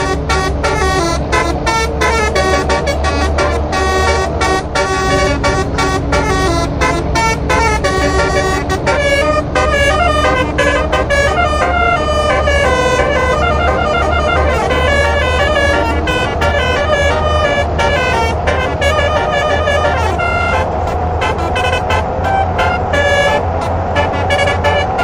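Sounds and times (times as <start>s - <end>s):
musical air horn melody: 0.0s - 25.0s.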